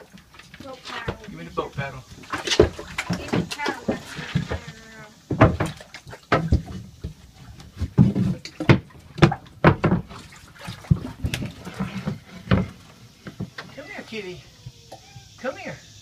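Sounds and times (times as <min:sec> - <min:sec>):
floodwater splashing: 0:00.0 - 0:15.6
paddle knocking against boat: 0:01.0 - 0:13.8.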